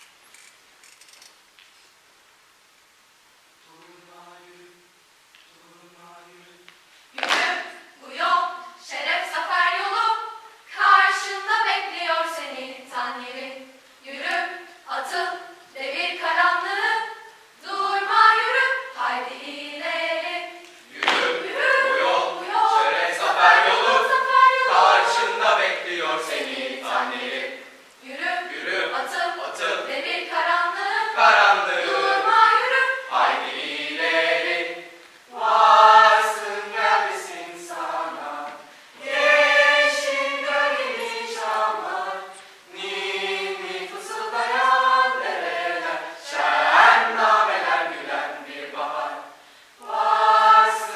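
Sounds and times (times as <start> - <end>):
choir singing a cappella: 3.7 - 4.9, 5.6 - 6.6, 7.2 - 50.9.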